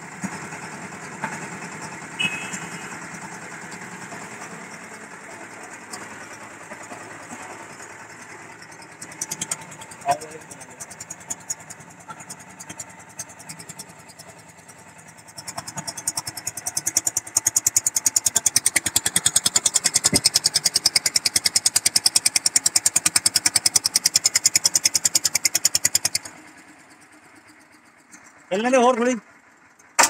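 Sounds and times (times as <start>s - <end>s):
diesel engine pounding: 0.0s - 30.0s.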